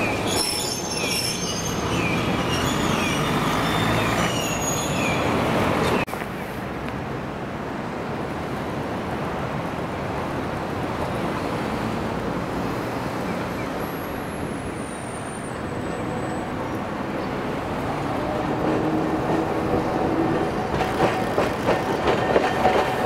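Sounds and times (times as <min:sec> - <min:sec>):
road traffic noise: 0:00.0 - 0:23.0
streetcar approaching: 0:00.0 - 0:23.0.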